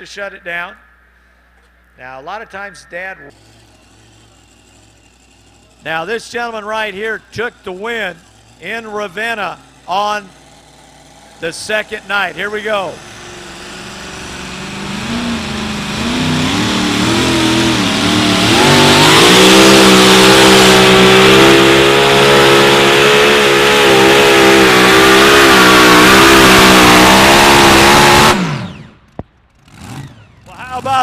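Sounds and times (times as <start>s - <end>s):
truck engine at full throttle: 3.3s - 31.0s.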